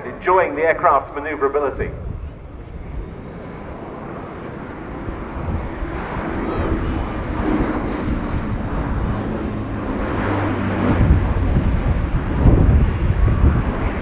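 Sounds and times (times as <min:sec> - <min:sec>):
turboprop aircraft droning: 0:00.0 - 0:14.0.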